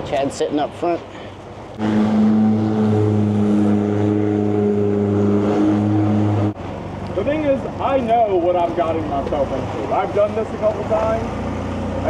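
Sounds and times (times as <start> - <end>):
diesel boat engine running: 1.3 - 12.0.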